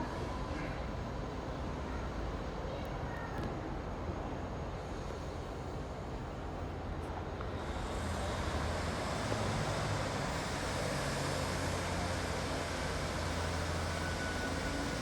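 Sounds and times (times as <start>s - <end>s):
train engine hum: 0.0s - 15.0s.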